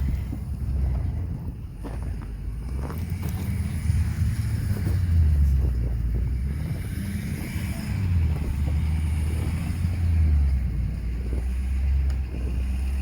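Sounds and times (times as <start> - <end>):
vehicle engine running at low speed: 0.0 - 13.0.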